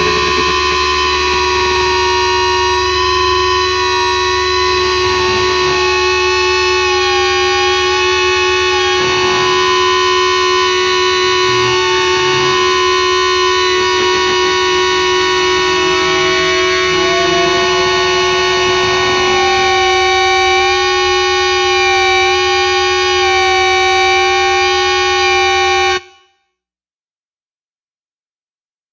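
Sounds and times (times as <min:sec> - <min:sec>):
droning held tones: 0:00.0 - 0:26.1
higher tone wavering in pitch: 0:00.0 - 0:26.3.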